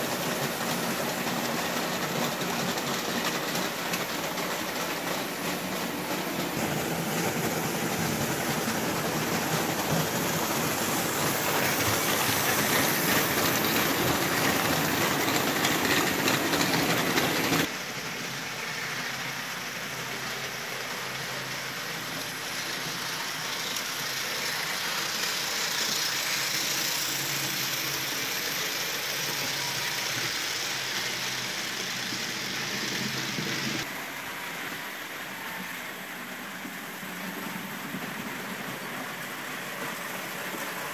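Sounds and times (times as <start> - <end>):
model trains running on metal track: 0.0 - 40.9.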